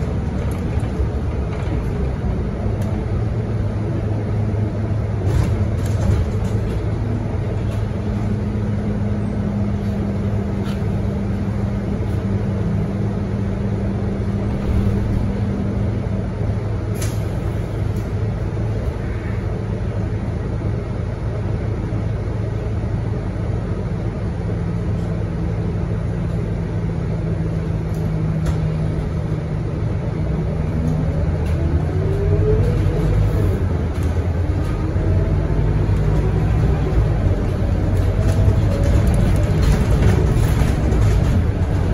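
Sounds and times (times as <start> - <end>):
bus diesel engine humming: 0.0 - 41.9.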